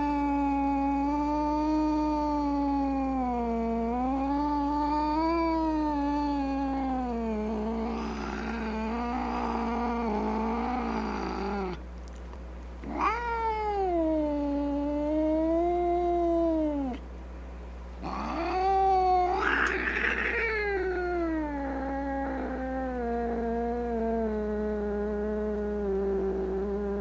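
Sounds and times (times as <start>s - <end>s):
cat yowling: 0.0s - 11.8s, 12.8s - 17.0s, 18.0s - 24.6s
steady low hum: 0.0s - 27.0s.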